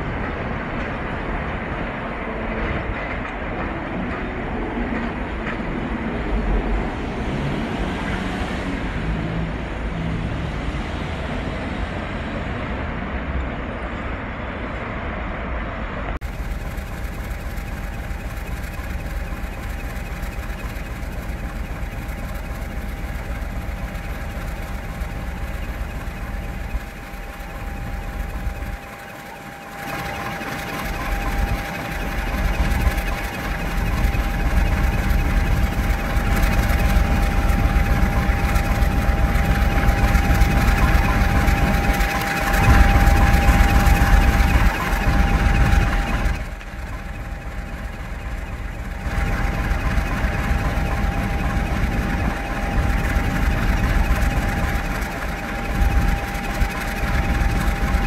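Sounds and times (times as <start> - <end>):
diesel locomotive engine rumbling: 0.0 - 58.0.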